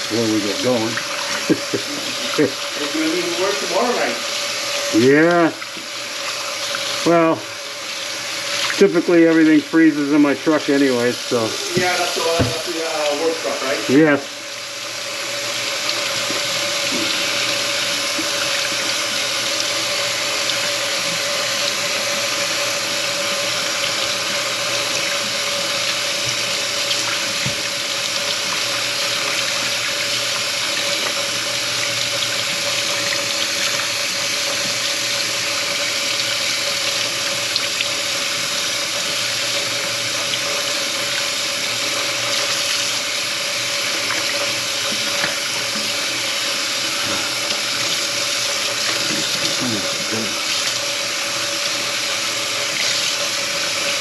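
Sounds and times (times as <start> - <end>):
faucet running into sink: 0.0 - 54.0.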